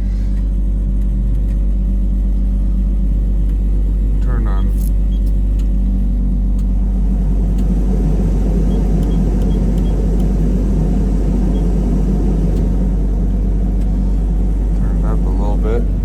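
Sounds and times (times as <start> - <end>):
excavator diesel engine running: 0.0 - 16.0
heater blower fan rushing: 0.0 - 16.0.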